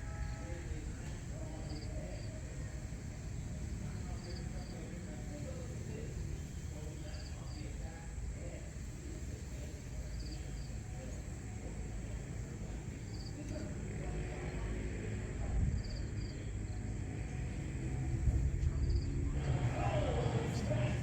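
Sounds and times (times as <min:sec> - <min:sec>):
low rumble of wind or traffic: 0:00.0 - 0:21.0.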